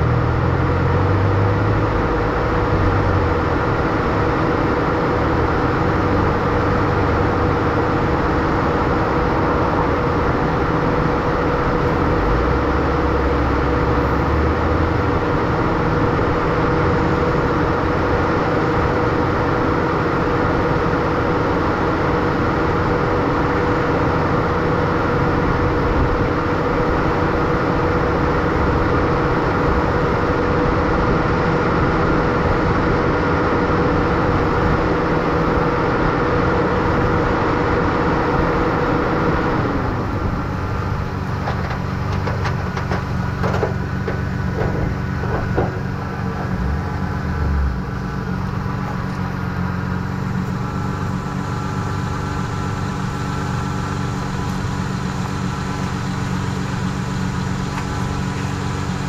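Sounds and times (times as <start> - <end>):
car engine idling: 0.0 - 59.0
engine whine: 0.0 - 59.0.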